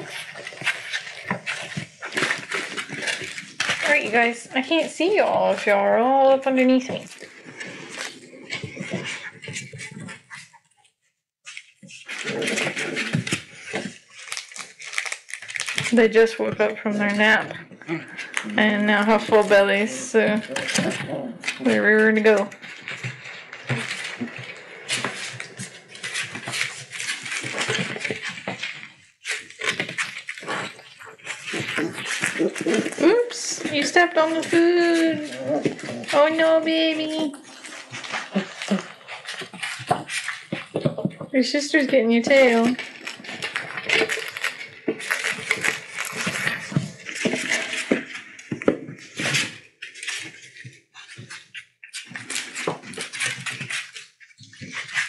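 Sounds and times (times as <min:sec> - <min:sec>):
puppy claws clicking on floor: 0:00.0 - 0:55.0.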